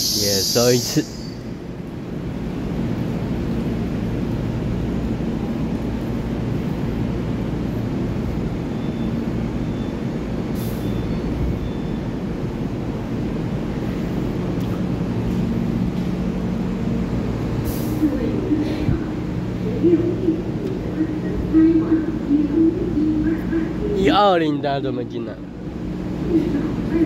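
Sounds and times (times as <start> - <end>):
train pulling out: 0.0 - 27.0
train rumble with motor hum: 0.0 - 27.0.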